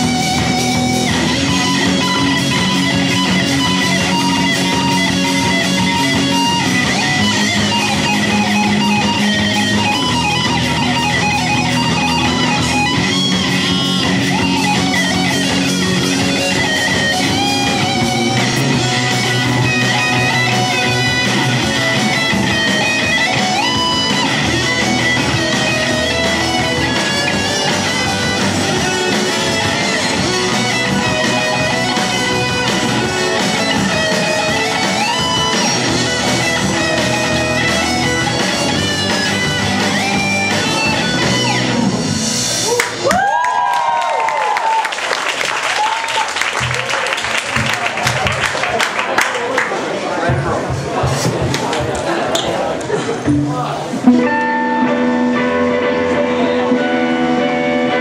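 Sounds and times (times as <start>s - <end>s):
lead guitar bent notes: 0.0s - 42.7s, 53.2s - 58.0s
rock band playing live: 0.0s - 58.0s.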